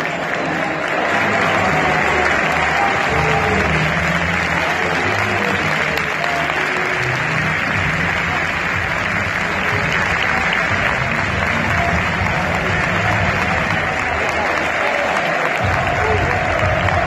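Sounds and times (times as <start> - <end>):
crowd clapping: 0.0 - 17.0.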